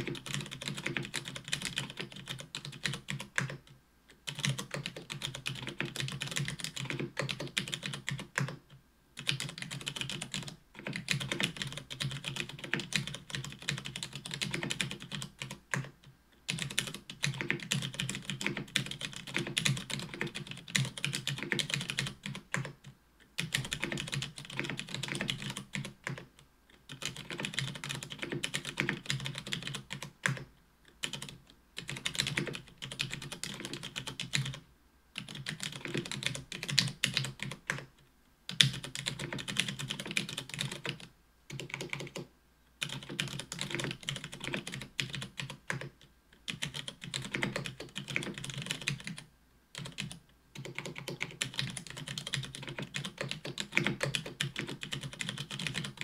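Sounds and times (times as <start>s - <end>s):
mechanical keyboard typing: 0.0s - 34.6s, 35.2s - 37.9s, 38.5s - 56.0s.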